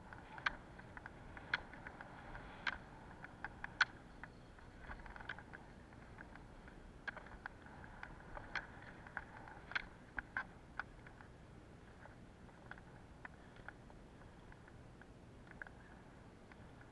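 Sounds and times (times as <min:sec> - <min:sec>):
roller skis rolling on asphalt: 0:00.0 - 0:16.9
ski poles clicking on asphalt: 0:00.0 - 0:16.9.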